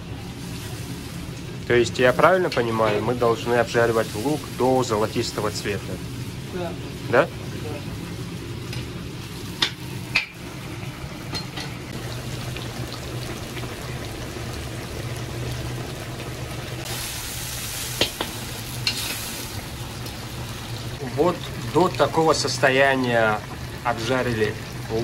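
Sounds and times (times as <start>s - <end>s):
onions and meat sizzling in oil: 0.0s - 25.0s.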